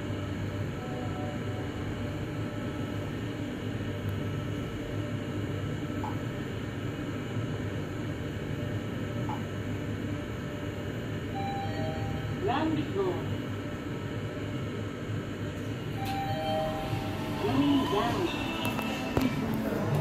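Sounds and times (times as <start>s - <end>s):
elevator car hum and rumble: 0.0s - 8.1s, 11.0s - 13.3s, 13.9s - 20.0s.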